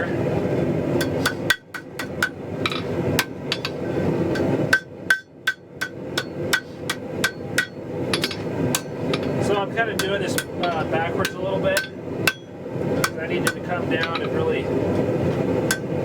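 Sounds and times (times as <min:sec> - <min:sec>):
steady rushing noise: 0:00.0 - 0:16.0
hammer striking steel on anvil: 0:01.0 - 0:14.6, 0:15.7 - 0:16.0.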